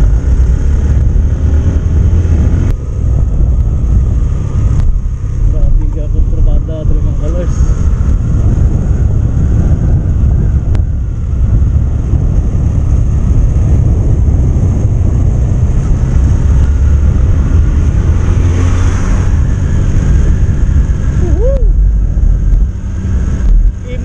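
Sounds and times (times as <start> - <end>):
motorcycle engine running: 0.0 - 24.0
wind rumbling over microphone: 0.0 - 24.0.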